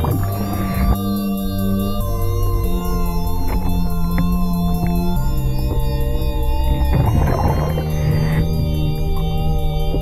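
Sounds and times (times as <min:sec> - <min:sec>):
ambient music with held notes: 0:00.0 - 0:10.0.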